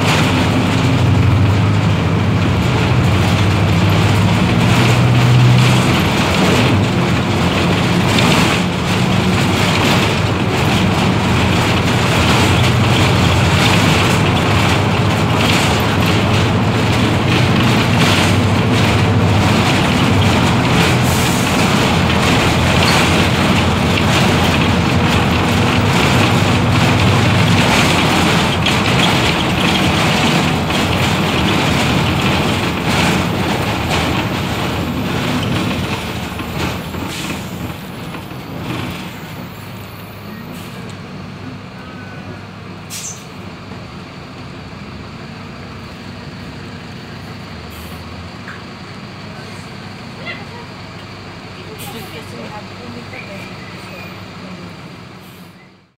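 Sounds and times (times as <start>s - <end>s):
road and body noise: 0.0s - 55.8s
bus diesel engine hum: 0.0s - 55.9s.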